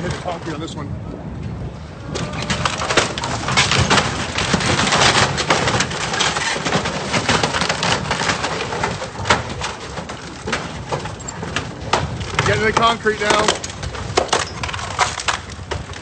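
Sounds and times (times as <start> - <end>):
wooden dock cracking and splintering: 0.0 - 0.7, 2.0 - 16.0.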